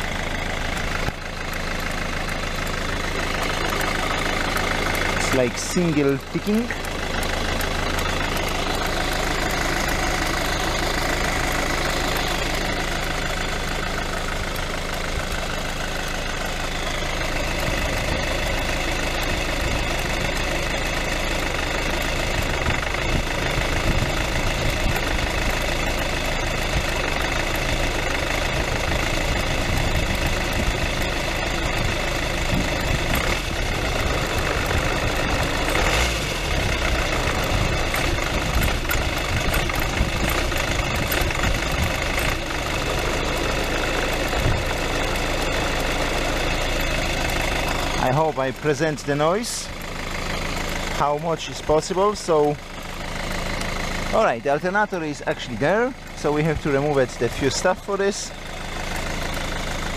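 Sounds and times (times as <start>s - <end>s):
belt drive ticking: 0.0s - 51.0s, 52.6s - 54.8s
diesel engine idling: 0.0s - 59.9s.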